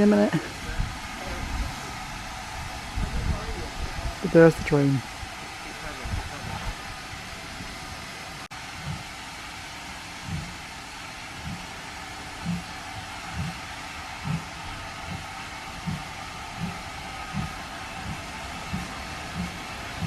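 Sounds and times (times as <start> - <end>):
steady steam hiss: 0.0 - 20.0
steam locomotive exhaust beats: 0.0 - 20.0.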